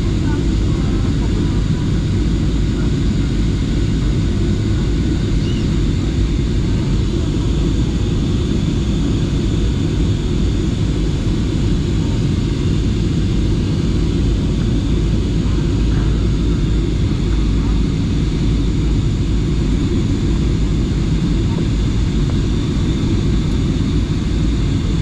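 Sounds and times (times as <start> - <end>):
airliner engines droning in cabin: 0.0 - 25.0.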